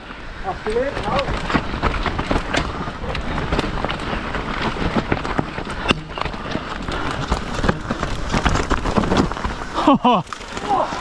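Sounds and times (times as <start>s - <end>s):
tyres rumbling over dirt: 0.0s - 11.0s
bike clattering over bumps: 0.4s - 11.0s.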